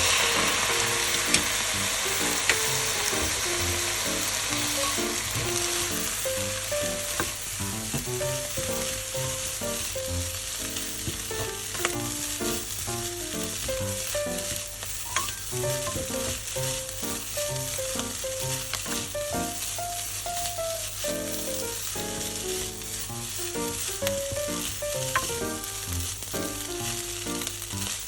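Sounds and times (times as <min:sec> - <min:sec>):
utensil clicking against pan: 0:00.0 - 0:09.8, 0:10.8 - 0:19.5, 0:20.3 - 0:27.9
background music: 0:00.0 - 0:14.8, 0:15.6 - 0:28.0
rice sizzling in a frying pan: 0:00.0 - 0:28.0.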